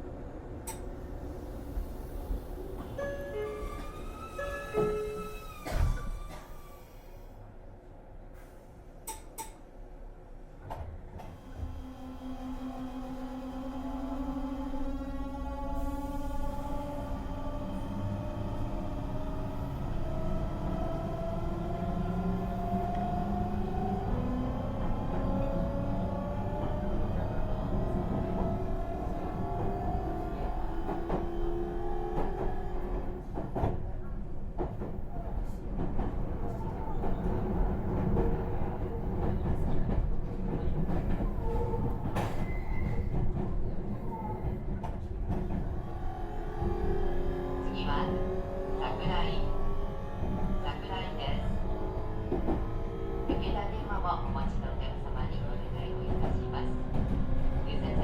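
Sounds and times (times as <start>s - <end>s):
train rumble: 10.4s - 58.0s.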